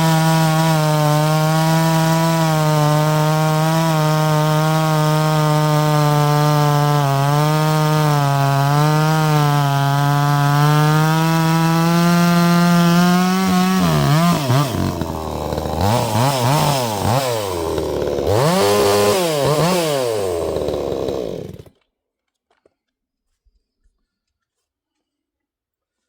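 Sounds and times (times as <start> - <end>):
chainsaw revving: 0.0 - 21.8.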